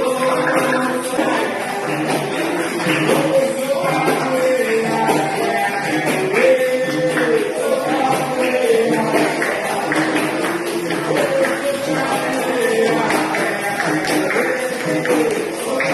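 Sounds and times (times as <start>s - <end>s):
person singing: 0.0s - 15.9s
tambourine jingling beat: 0.0s - 15.9s.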